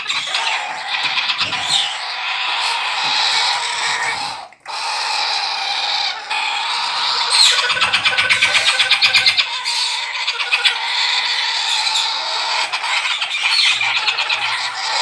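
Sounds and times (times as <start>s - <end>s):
cockatoo chicks raspy begging calls: 0.0s - 15.0s.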